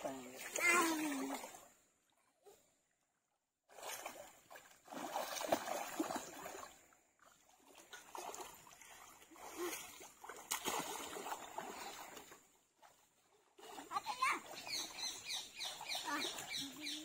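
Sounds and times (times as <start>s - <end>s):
children splashing in water: 0.0s - 1.8s, 3.7s - 17.0s.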